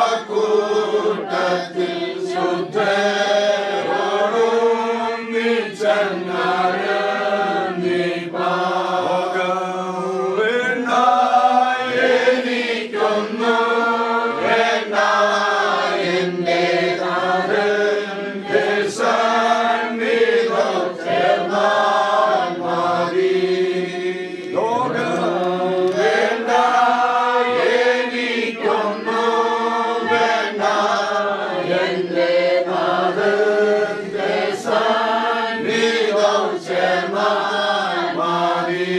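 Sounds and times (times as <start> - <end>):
group singing a hymn: 0.0 - 38.9.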